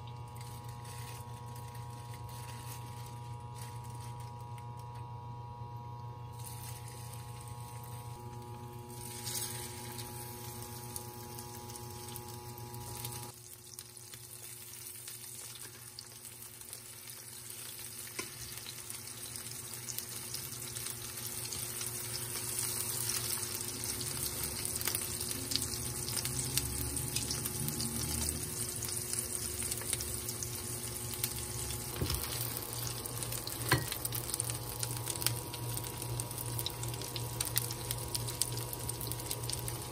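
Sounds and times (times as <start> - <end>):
meat sizzling in hot oil: 0.0 - 4.8, 6.3 - 39.9.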